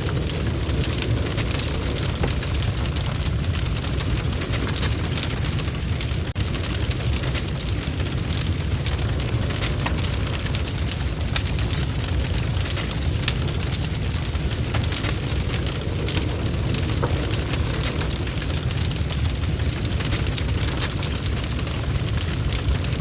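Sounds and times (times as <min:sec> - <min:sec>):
burning wood crackling: 0:00.0 - 0:23.0
rumble of flames: 0:00.0 - 0:23.0.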